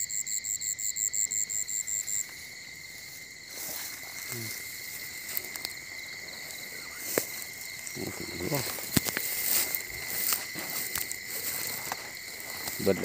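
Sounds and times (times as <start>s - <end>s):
insect high drone: 0.0s - 13.0s
insect rapid high pulses: 0.0s - 13.0s
grass rustling: 1.4s - 13.0s
footsteps through vegetation: 2.0s - 13.0s.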